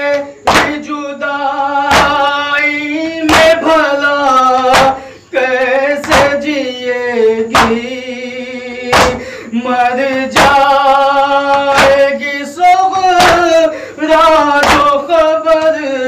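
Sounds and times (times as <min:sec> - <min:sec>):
man singing a lament: 0:00.0 - 0:16.0.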